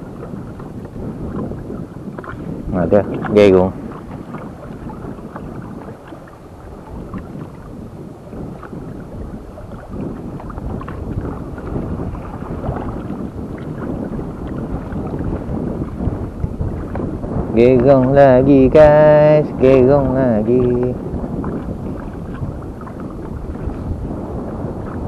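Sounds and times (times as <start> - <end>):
water splashing against a hull: 0.0 - 25.0
wind buffeting microphone: 0.0 - 25.0.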